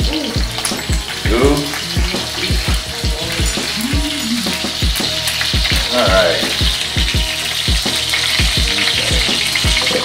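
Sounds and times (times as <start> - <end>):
chicken sizzling in oil: 0.0 - 10.0
music with deep bass beat: 0.0 - 10.0.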